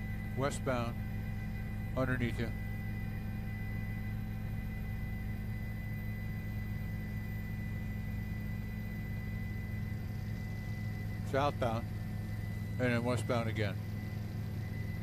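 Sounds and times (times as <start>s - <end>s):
low drone and hum: 0.0s - 15.0s.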